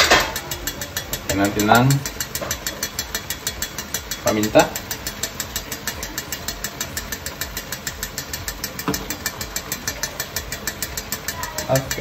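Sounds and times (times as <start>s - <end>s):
mechanical ticking: 0.0s - 12.0s.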